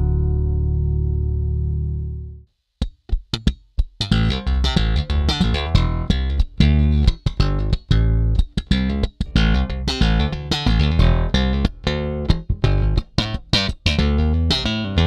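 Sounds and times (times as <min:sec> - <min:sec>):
fingerstyle bass chord: 0:00.0 - 0:02.4, 0:03.4 - 0:15.0
slap bass guitar: 0:00.0 - 0:02.4, 0:03.1 - 0:15.0.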